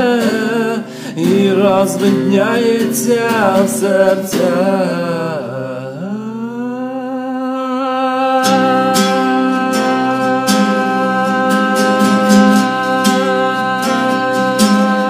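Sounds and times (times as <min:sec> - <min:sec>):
strummed acoustic guitar: 0:00.0 - 0:07.0, 0:08.0 - 0:15.0.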